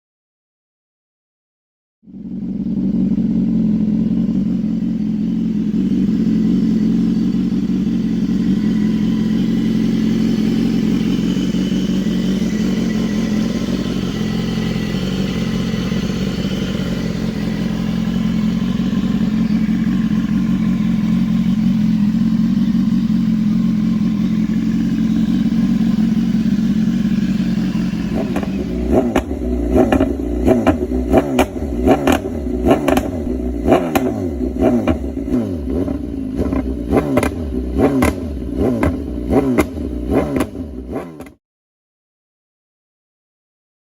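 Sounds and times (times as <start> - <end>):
motorcycle engine idling: 2.1 - 41.4.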